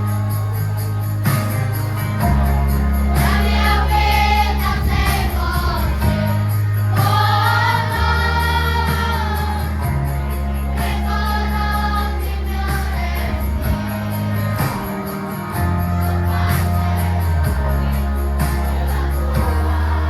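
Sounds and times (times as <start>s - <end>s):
instrumental accompaniment: 0.0s - 20.0s
tambourine jingle: 0.0s - 20.0s
children's choir singing: 2.2s - 20.0s.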